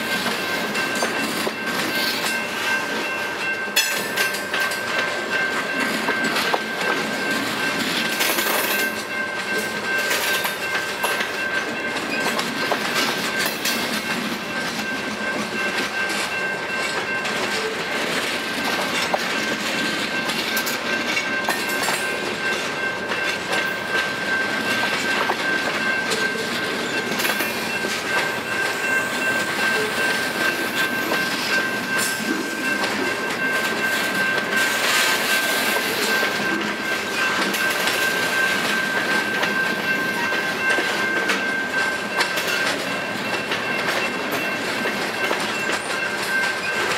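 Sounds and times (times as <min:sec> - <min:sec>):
train wheels clacking on rails: 0:00.0 - 0:46.9.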